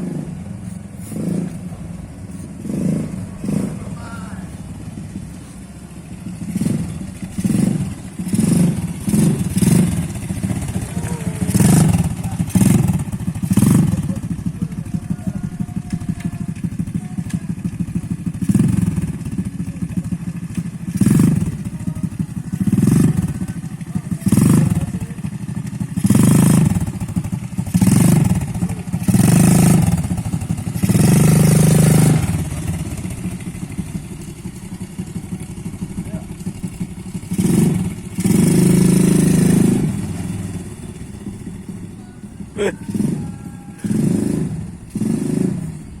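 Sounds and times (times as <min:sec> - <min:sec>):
atv engine rumbling: 0:00.0 - 0:46.0.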